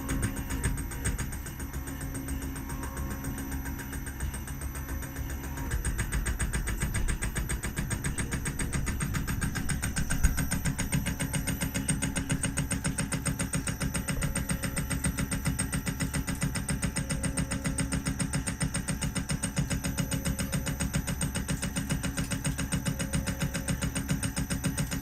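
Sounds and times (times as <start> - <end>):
milling machine pulsing: 0.0 - 25.0.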